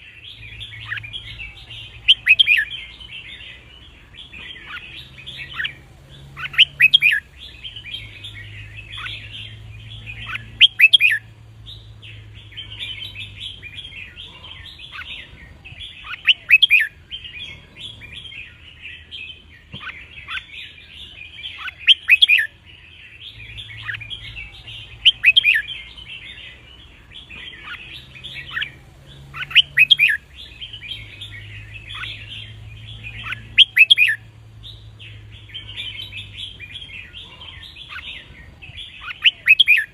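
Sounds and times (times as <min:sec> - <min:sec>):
birds chirping chatter: 0:00.0 - 0:39.9
bulbuls singing: 0:00.0 - 0:39.9.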